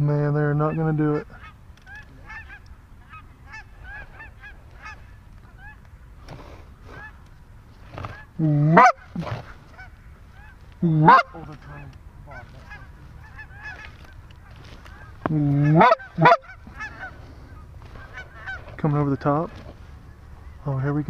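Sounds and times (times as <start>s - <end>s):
faint flock of geese honking: 0.1s - 21.0s
goose calls honking: 0.6s - 5.8s, 7.9s - 20.9s.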